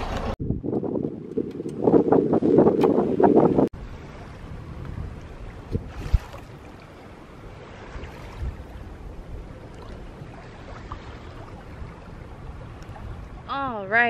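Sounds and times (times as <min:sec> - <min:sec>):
wind and water at boat bow: 0:00.0 - 0:14.0.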